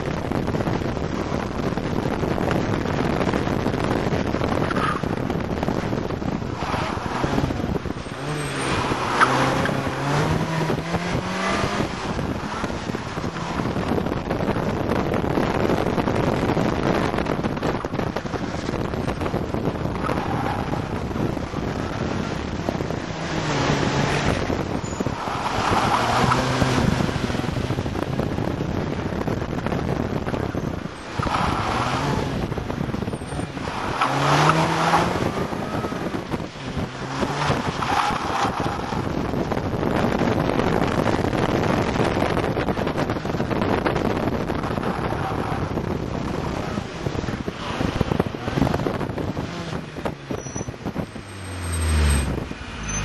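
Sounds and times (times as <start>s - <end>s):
car engine revving hard: 0.2s - 29.4s, 30.2s - 53.0s.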